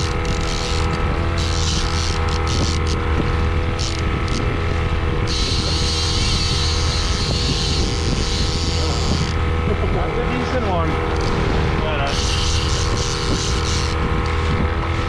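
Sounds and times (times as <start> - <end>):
boat motor droning: 0.0 - 15.0.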